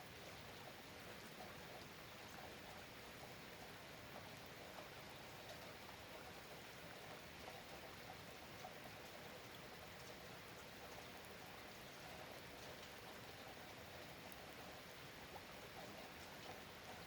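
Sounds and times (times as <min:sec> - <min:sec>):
faint steady rain: 0:00.0 - 0:17.0
light drip ticks: 0:00.1 - 0:17.0.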